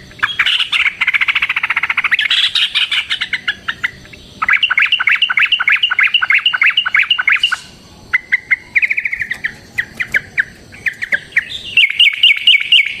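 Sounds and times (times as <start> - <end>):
bird chattering song: 0.0 - 13.0.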